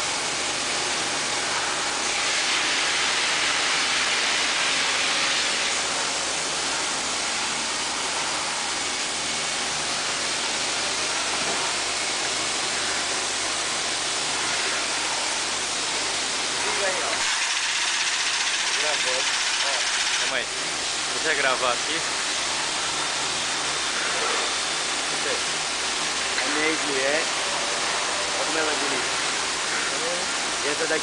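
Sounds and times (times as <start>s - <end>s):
lathe running with hiss: 0.0s - 31.0s.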